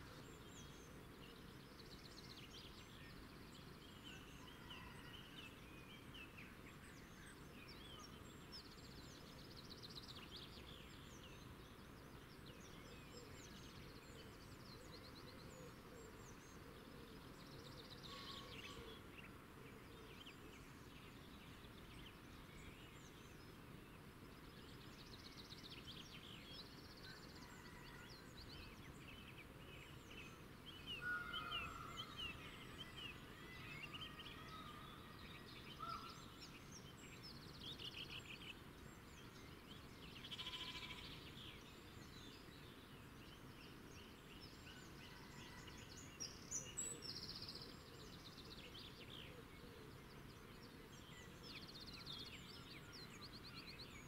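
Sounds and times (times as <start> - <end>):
faint background noise: 0.0 - 54.0
small birds chirping and trilling: 0.0 - 54.0.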